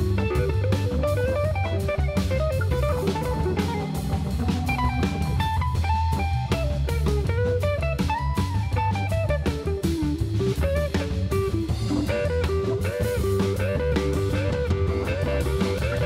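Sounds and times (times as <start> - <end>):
drum kit with cymbals: 0.0 - 16.0
electric guitar single-note line: 0.0 - 16.0
organ bass: 0.0 - 16.0.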